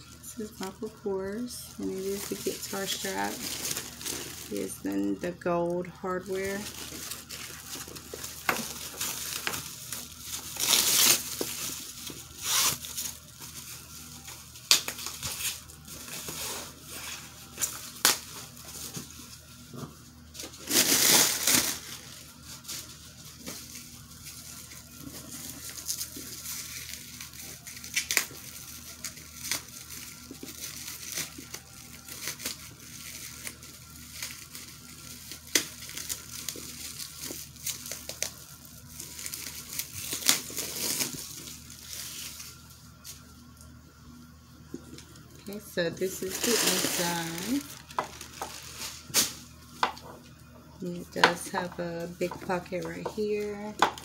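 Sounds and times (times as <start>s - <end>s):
paper and plastic crinkling: 0.2s - 43.6s, 44.7s - 50.3s, 50.9s - 54.0s.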